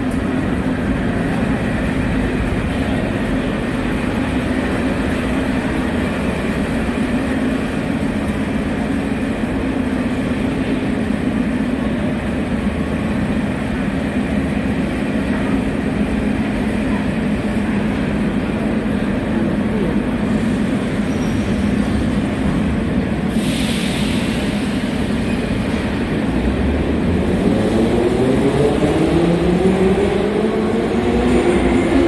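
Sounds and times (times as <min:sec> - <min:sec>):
metro station rumbling din: 0:00.0 - 0:32.0.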